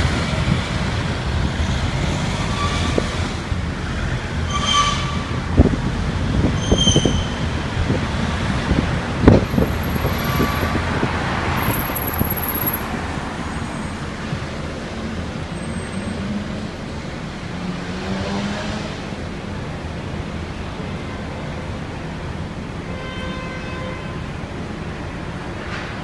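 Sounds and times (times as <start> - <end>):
road and traffic noise: 0.0 - 26.0.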